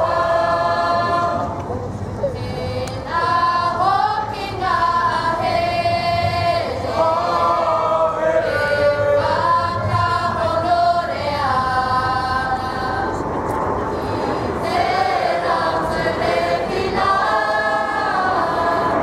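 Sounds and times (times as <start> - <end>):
group singing as a choir: 0.0 - 1.6, 2.3 - 13.3, 13.9 - 19.0.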